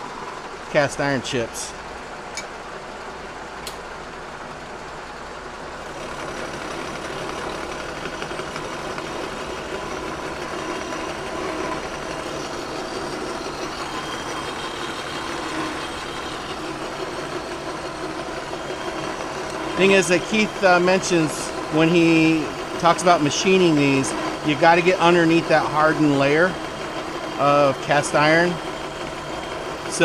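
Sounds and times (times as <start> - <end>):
milling machine cutting metal: 5.8 - 30.0.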